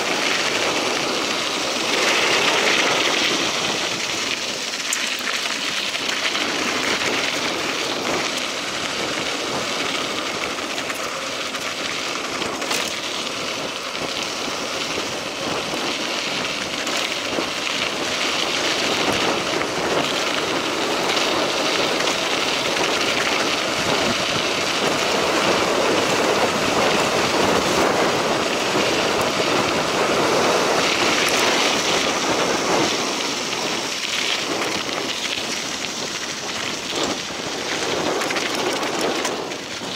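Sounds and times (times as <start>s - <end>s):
bike clicks and rattles: 0.0s - 39.9s
bike tyres rolling on gravel: 0.0s - 39.9s.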